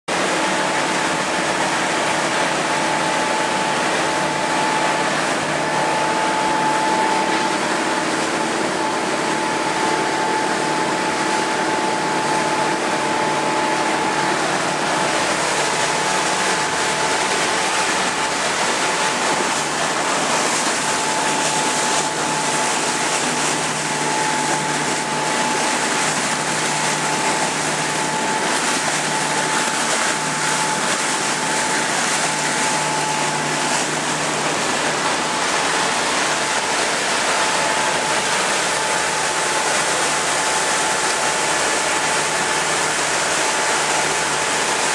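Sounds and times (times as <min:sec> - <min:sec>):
motorboat engine droning: 0:00.1 - 0:44.9
water and wind rushing: 0:00.1 - 0:44.9.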